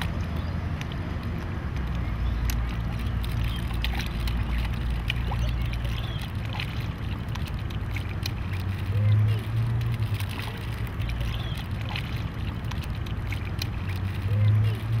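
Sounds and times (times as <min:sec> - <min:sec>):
fish splashing: 0:00.0 - 0:15.0
hand dipping in water: 0:00.0 - 0:15.0
water sloshing around legs: 0:00.0 - 0:15.0.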